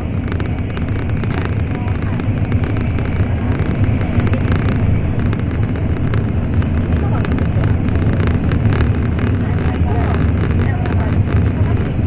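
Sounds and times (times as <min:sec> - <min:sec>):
train cabin deep rumble: 0:00.0 - 0:12.0.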